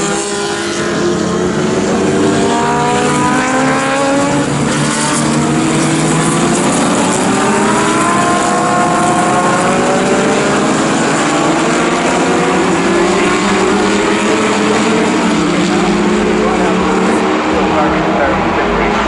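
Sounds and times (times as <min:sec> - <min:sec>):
racing car engines roaring: 0:00.0 - 0:19.0.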